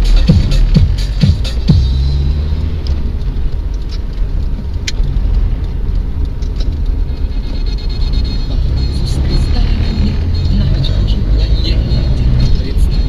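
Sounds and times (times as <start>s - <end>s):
car engine and road noise rumble: 0.0s - 13.0s.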